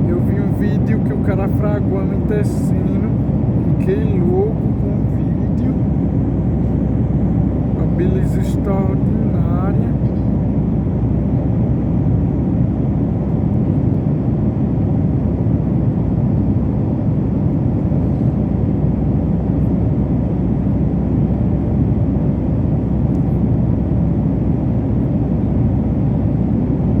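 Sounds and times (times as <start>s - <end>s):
airplane rumble: 0.0s - 27.0s.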